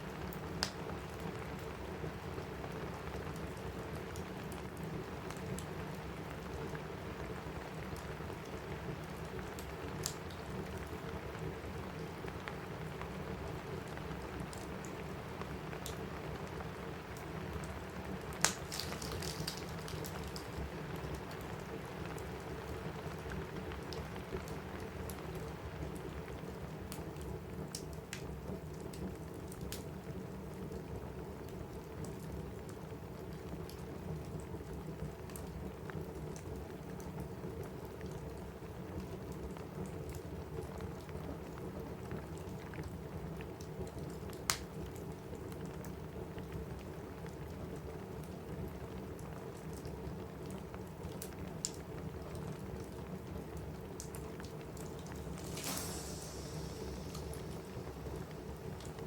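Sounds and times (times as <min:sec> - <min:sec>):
rain on a roof: 0:00.0 - 0:59.0
wood fire crackling and popping: 0:00.1 - 0:59.0.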